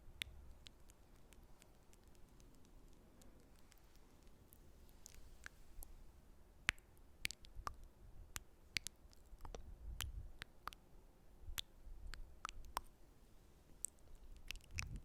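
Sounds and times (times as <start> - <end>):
wet lip and tongue clicks: 0.0 - 6.0, 6.6 - 10.8, 11.5 - 13.0, 13.8 - 15.0.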